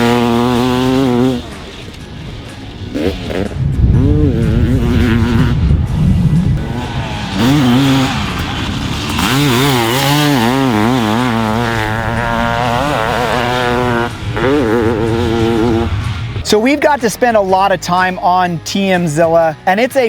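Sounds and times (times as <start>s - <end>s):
dirt bike engine revving: 0.0s - 18.2s.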